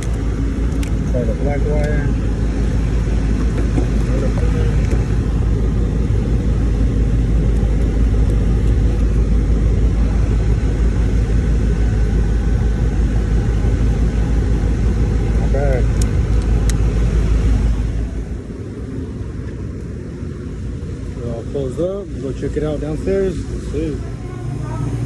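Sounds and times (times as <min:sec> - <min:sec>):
air conditioner running: 0:00.0 - 0:25.0.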